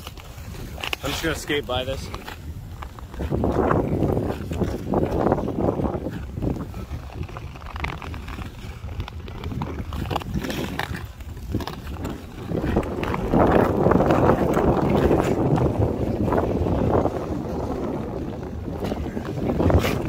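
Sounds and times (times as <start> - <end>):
ice skates scraping on ice: 0.0 - 20.0
wind rumbling on microphone: 0.0 - 20.0.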